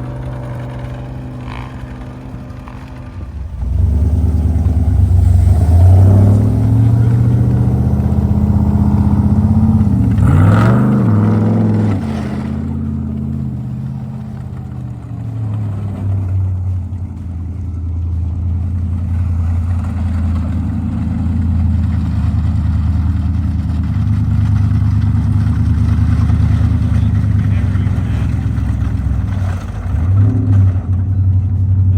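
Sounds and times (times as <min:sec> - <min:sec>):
dirt bike engine revving: 0:00.0 - 0:16.7, 0:19.1 - 0:31.2.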